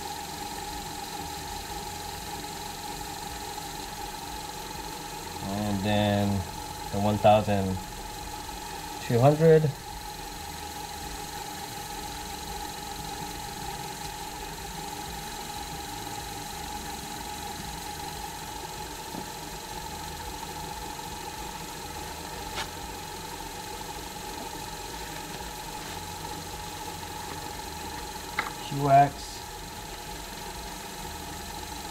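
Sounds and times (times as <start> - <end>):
lathe motor humming: 0.0 - 31.9.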